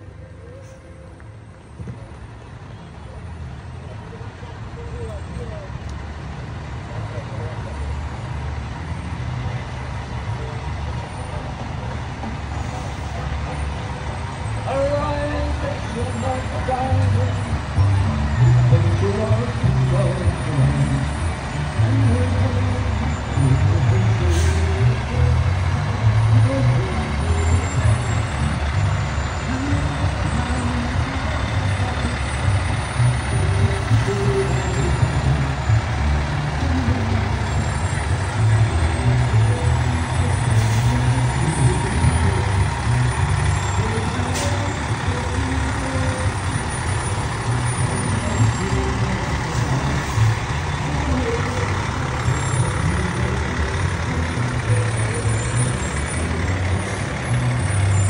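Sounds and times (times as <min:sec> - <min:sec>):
large vehicle engine rumbling: 0:00.0 - 0:58.0.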